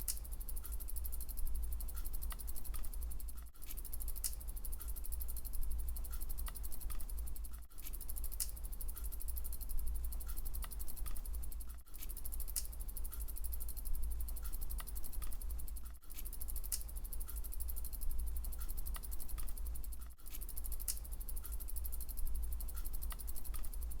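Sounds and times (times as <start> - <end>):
bicycle freewheel ratchet ticking: 0.0 - 24.0.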